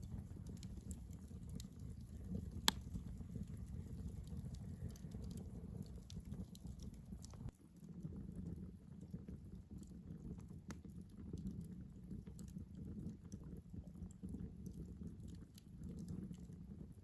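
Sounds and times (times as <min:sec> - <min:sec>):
campfire rumble: 0:00.0 - 0:17.0
fire crackling and popping: 0:00.0 - 0:17.0.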